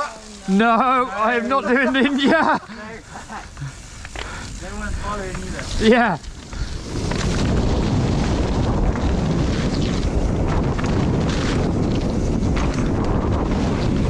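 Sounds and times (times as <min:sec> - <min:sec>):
bike tyres rattling over mud: 0:00.0 - 0:14.0
wind on microphone: 0:01.1 - 0:14.0.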